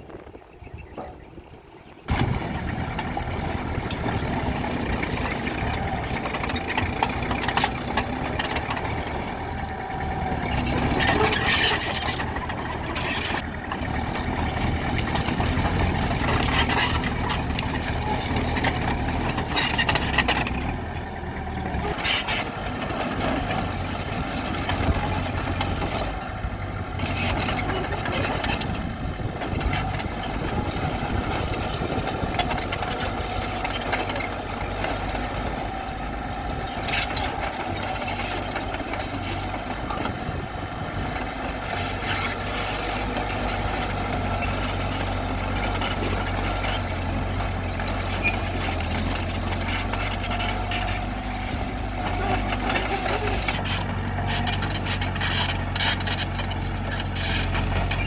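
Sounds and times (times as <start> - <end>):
bulldozer diesel engine running: 0.0 - 58.0
grinding and scraping: 2.1 - 58.0.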